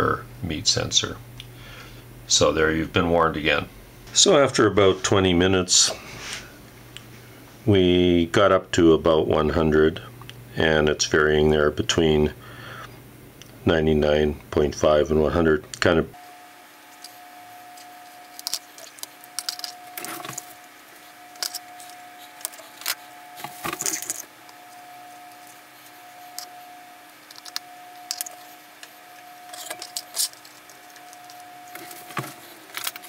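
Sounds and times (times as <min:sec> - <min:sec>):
steady faint hum: 0:00.0 - 0:33.0.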